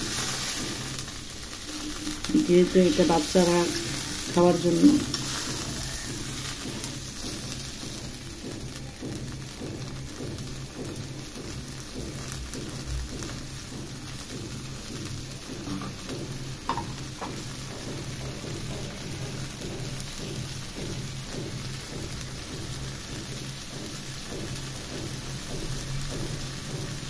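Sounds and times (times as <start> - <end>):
curry sizzling and bubbling: 0.0 - 27.0.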